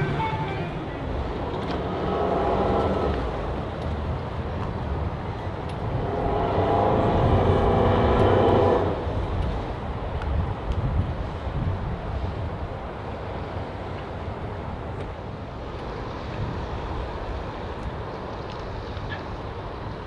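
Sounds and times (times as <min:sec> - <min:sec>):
engine running low rumble: 0:00.0 - 0:20.0.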